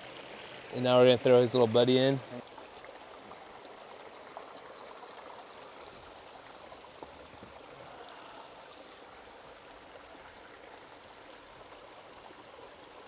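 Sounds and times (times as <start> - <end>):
stream rushing water: 0.0 - 13.0.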